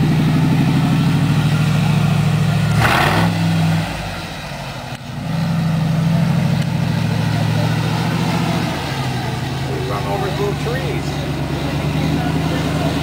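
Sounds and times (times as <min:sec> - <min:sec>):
monster truck engine running: 0:00.0 - 0:13.0.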